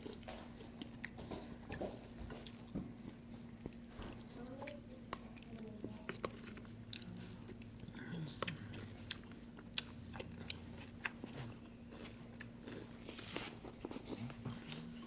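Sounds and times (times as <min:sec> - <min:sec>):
person chewing crunchy cereal: 0:00.0 - 0:15.0.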